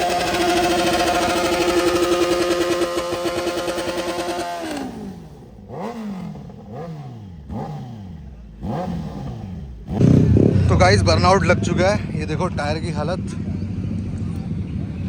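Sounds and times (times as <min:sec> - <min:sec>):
motorcycle engine high revs: 0:00.0 - 0:15.0
motorcycle throttle blips: 0:00.0 - 0:15.0.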